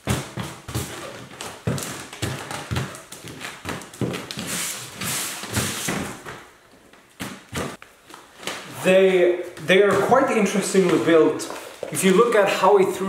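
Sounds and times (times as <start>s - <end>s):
shoes scraping scuffs: 0.0s - 6.4s, 7.2s - 12.0s.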